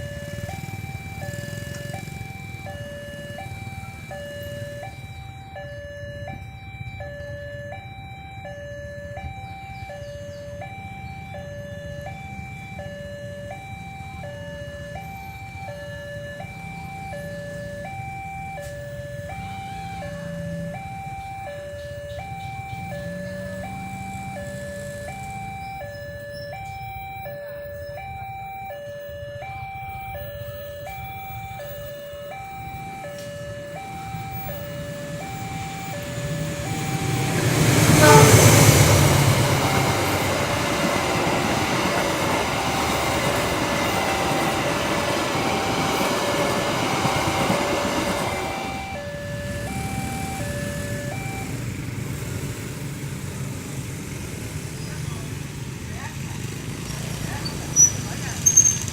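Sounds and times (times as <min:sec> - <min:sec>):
train passing: 0:00.0 - 0:05.7, 0:10.2 - 0:58.9
two-tone level-crossing siren: 0:00.0 - 0:53.9.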